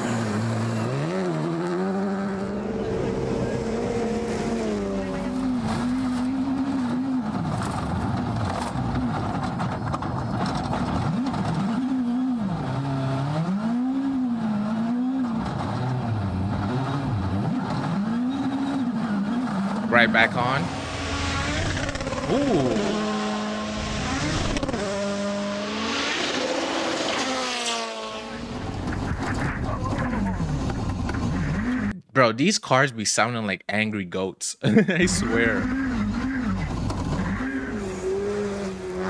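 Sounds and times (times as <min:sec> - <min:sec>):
rally car engine revving: 0:00.0 - 0:32.0, 0:35.0 - 0:39.0.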